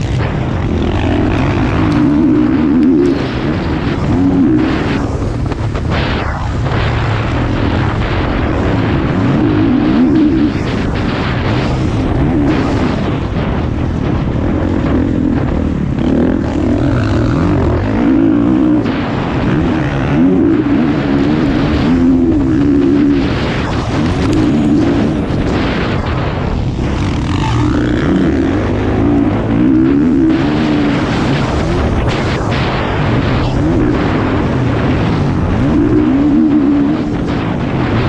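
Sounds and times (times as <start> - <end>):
motocross bike engine: 0.0 - 38.0
wind noise on microphone: 0.0 - 38.0.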